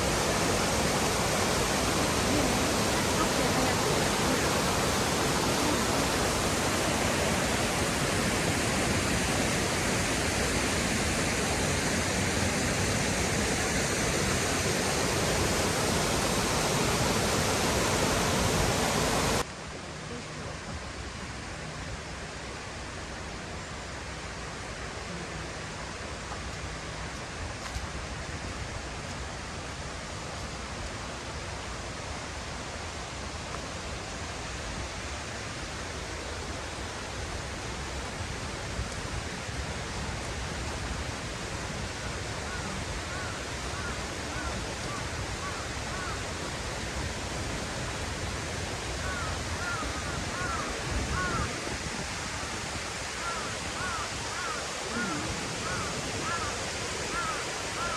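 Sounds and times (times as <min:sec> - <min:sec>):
mountain stream rushing: 0:00.0 - 0:57.9.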